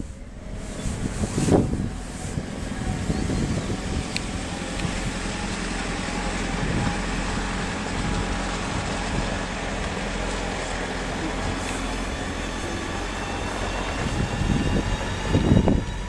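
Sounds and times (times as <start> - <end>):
electric train running with whine: 0.0 - 16.0.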